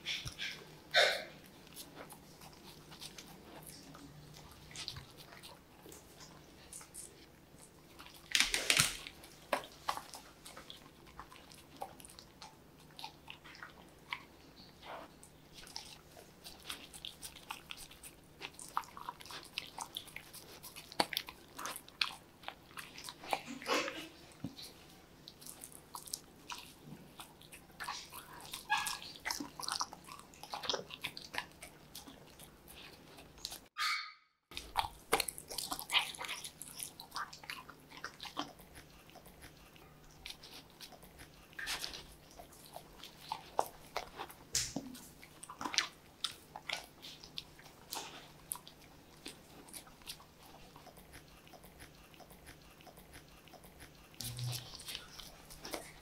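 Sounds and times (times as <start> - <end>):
dog chewing and crunching food: 0.0 - 33.8, 34.5 - 56.0.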